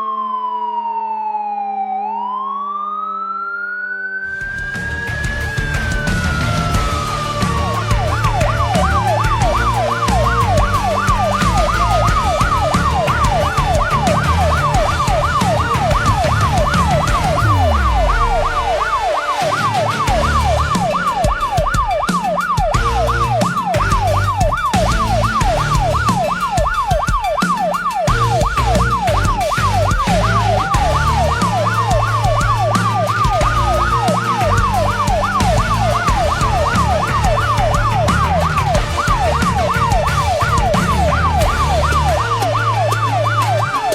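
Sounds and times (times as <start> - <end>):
siren wailing: 0.0 - 43.9
siren yelping: 0.0 - 43.9.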